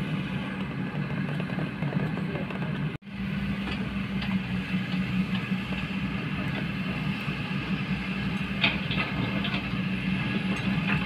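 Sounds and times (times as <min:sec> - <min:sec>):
excavator diesel engines running: 0:00.0 - 0:11.0.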